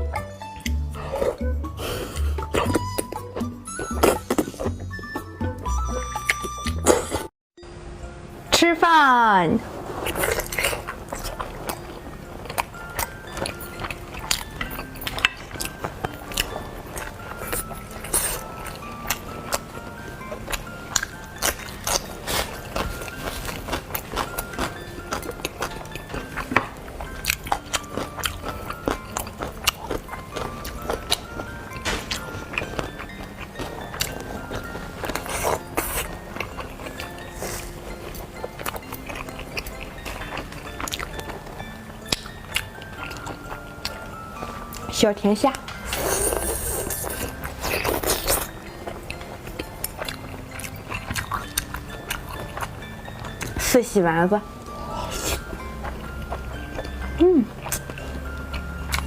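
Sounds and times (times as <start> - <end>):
faint background music: 0.0 - 59.0
chewing crunchy food: 0.7 - 5.2, 9.9 - 53.8, 54.6 - 59.0.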